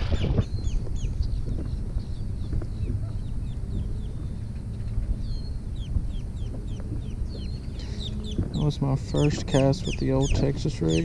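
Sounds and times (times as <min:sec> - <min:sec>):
birds chirping: 0:00.0 - 0:11.0
wind rumble on microphone: 0:00.0 - 0:11.0.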